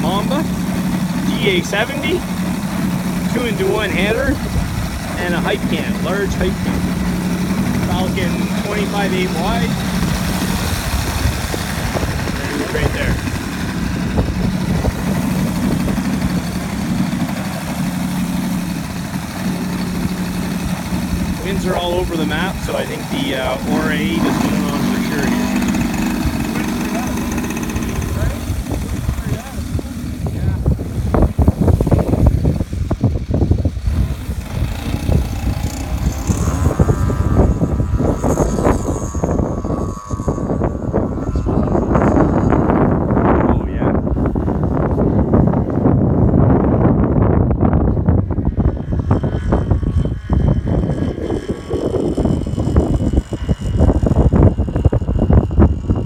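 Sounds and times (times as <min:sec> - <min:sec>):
model plane engine running: 0:00.0 - 0:56.0
wind rumble on microphone: 0:00.0 - 0:56.0.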